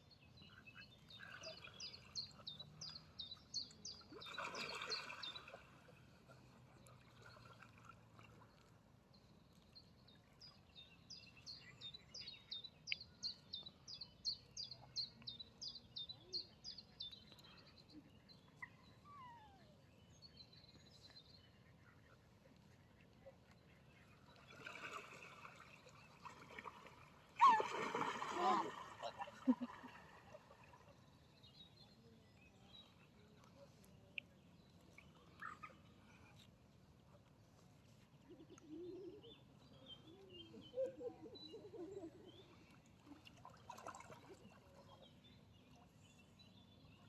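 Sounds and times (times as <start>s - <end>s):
faint outdoor background noise: 0.0s - 47.0s
songbird chirping: 8.3s - 47.0s.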